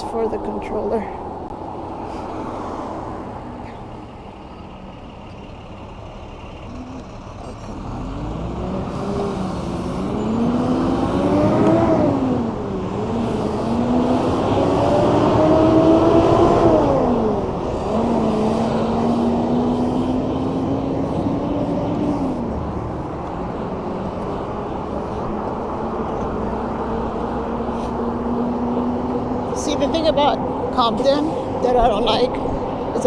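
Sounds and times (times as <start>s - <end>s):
road and wind noise: 0.0s - 33.0s
vehicle engine accelerating: 1.4s - 33.0s.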